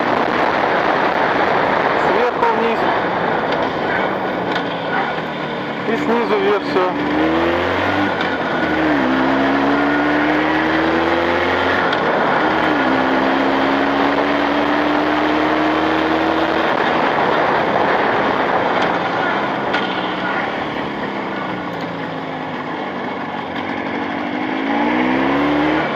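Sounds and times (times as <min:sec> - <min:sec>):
motorcycle engine shifting gears: 0:00.0 - 0:25.9
wind and road noise: 0:00.0 - 0:25.9.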